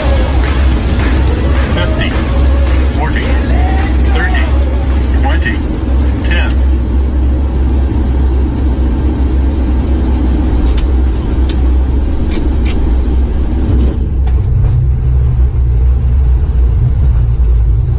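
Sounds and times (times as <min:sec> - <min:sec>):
airliner low rumble: 0:00.0 - 0:17.9
steady low hum: 0:00.0 - 0:17.9.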